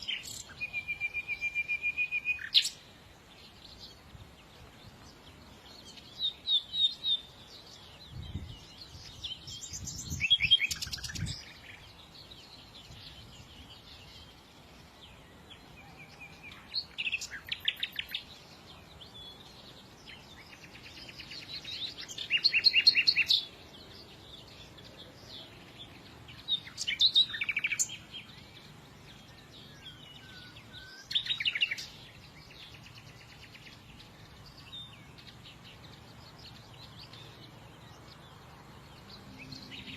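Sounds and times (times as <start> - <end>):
songbird singing trilled notes: 0.0 - 39.9.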